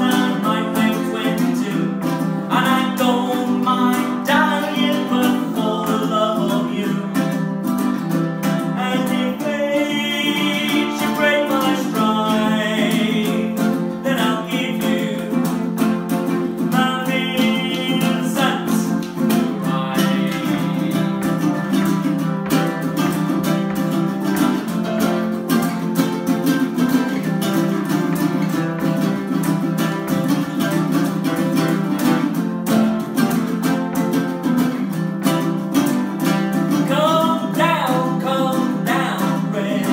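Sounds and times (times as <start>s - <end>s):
ukuleles strumming and picking: 0.0s - 39.9s.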